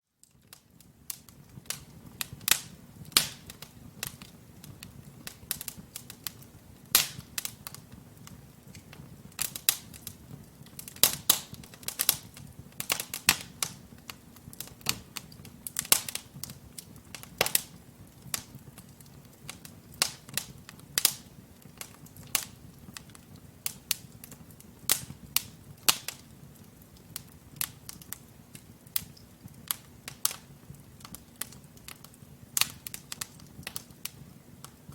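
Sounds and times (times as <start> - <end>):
fire crackling and popping: 0.0 - 34.9
soft hiss of fire: 0.0 - 34.9.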